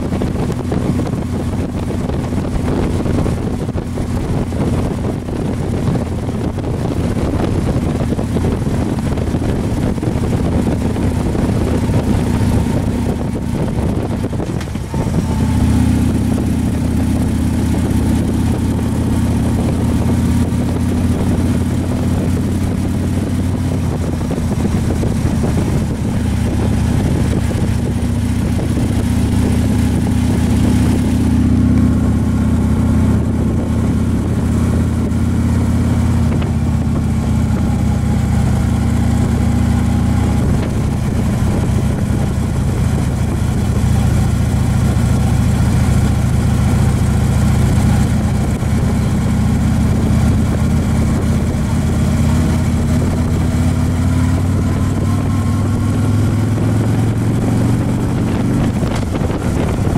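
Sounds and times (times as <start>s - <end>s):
motorcycle engine running: 0.0s - 59.9s
wind rush over microphone: 0.0s - 59.9s.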